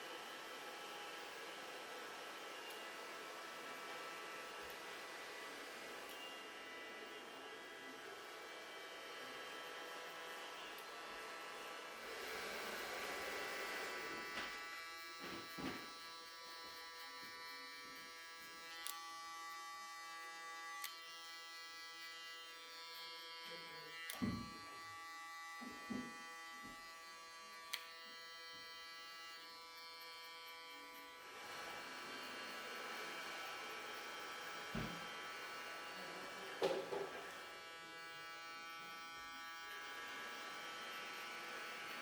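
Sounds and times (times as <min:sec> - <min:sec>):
electric hair clippers buzzing: 0:00.0 - 0:42.0.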